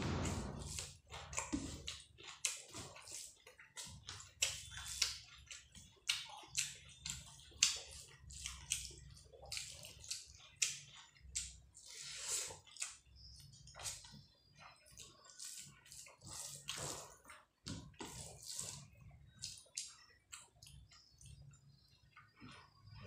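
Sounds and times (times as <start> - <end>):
wet chewing and lip-smacking: 0.6 - 22.8.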